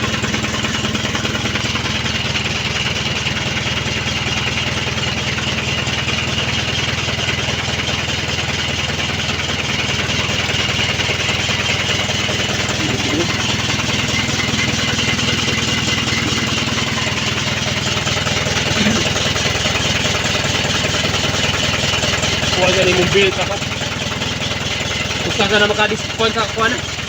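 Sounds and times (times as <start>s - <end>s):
starter motor cranking diesel engine: 0.0s - 27.0s.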